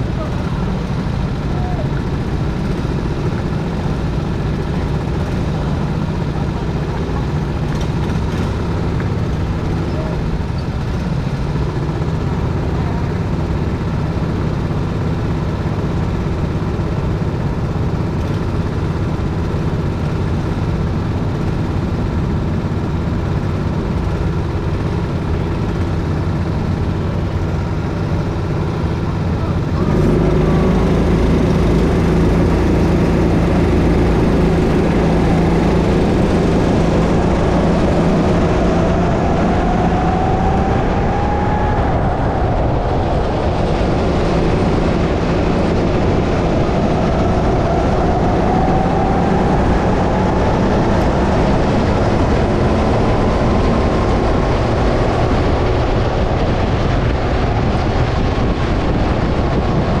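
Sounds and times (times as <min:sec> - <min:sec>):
go-kart engine accelerating: 0:00.0 - 1:00.0.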